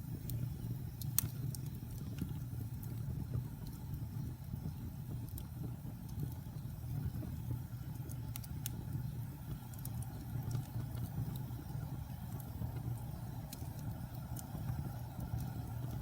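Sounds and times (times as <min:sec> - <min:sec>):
fire crackling and popping: 0:00.0 - 0:16.0
flames rumbling: 0:00.0 - 0:16.0.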